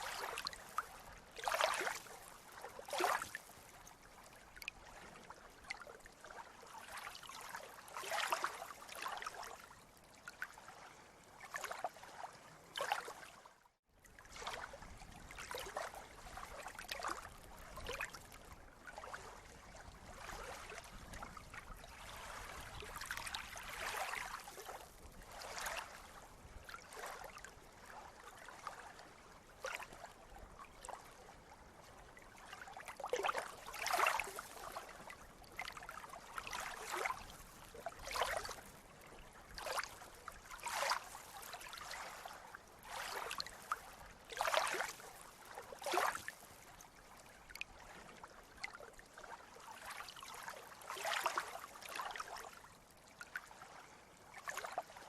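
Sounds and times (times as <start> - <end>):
sea water lapping and splashing: 0.0 - 55.0.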